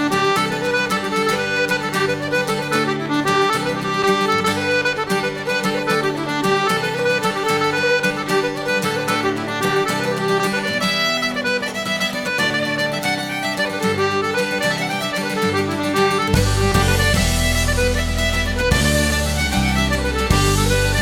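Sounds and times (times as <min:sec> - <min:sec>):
folk tune on fiddle and accordion: 0:00.0 - 0:21.0.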